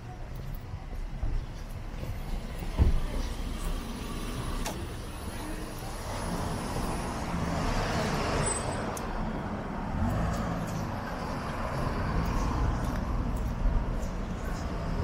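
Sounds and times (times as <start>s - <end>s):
passing vehicle engines: 0.0s - 15.0s
road noise: 0.0s - 15.0s.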